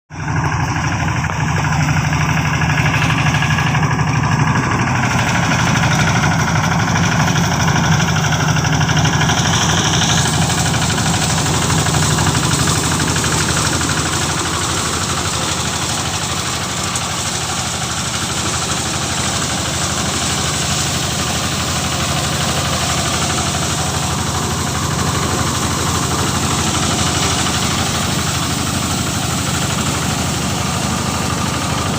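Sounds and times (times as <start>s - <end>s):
thresher engine humming: 0.1s - 31.9s.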